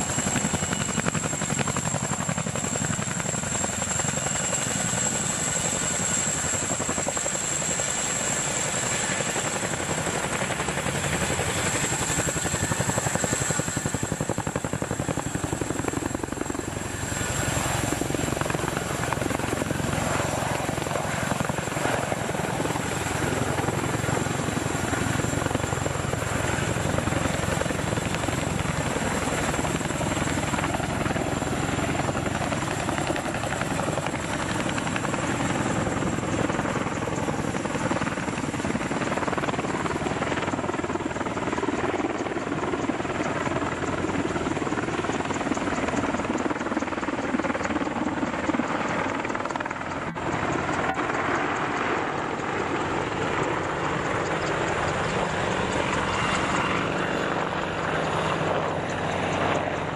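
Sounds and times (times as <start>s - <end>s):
helicopter engines running: 0.0s - 59.9s
helicopter rotor chop: 0.0s - 59.9s.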